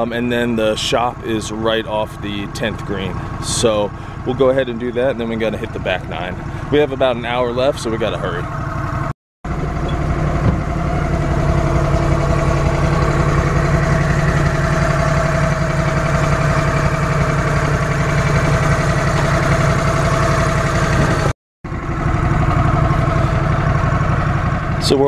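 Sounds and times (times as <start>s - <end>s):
utility vehicle engine running: 0.0s - 25.0s.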